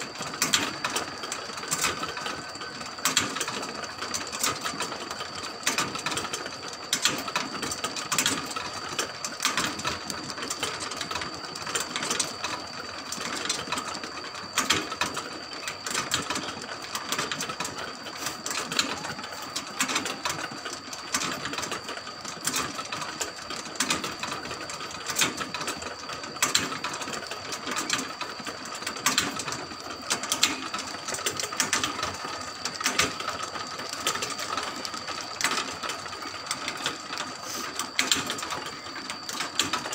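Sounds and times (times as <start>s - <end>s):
rotisserie motor whine: 0.0s - 39.9s.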